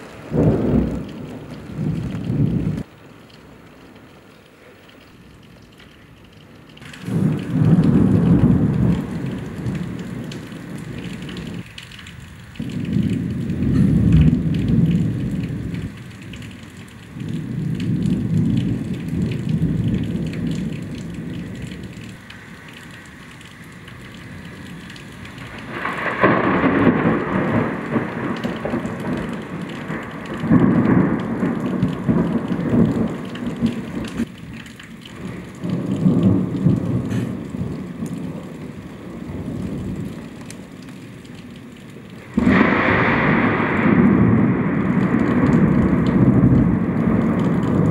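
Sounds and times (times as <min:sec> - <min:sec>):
thunder rolling: 0:00.0 - 0:02.9, 0:06.8 - 0:47.9
heavy rain: 0:00.0 - 0:47.9.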